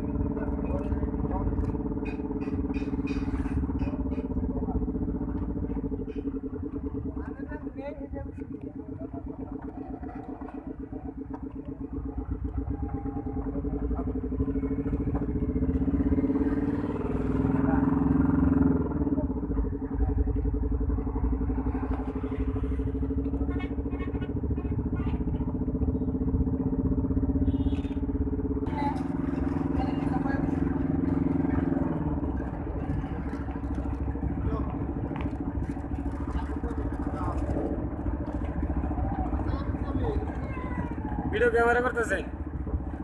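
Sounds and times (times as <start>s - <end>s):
road noise: 0.0s - 43.0s
vehicle engine pulsing: 0.0s - 43.0s.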